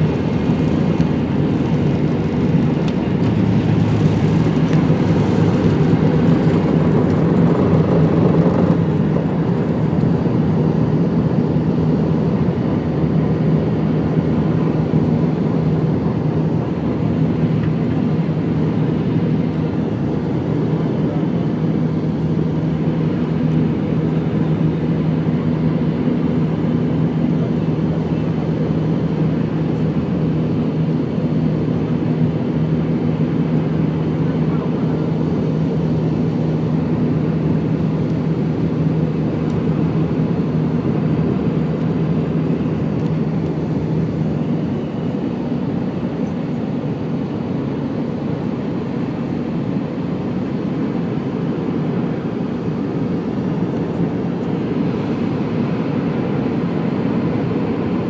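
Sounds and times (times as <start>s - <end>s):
jet cabin engine drone: 0.0s - 58.0s.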